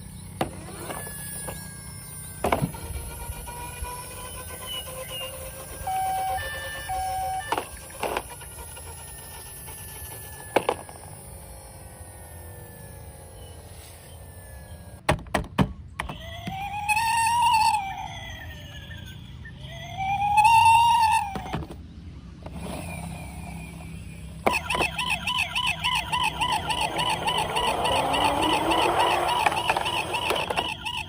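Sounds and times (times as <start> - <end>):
electronic siren wail: 0.0 - 15.0, 16.0 - 21.8, 22.4 - 31.0.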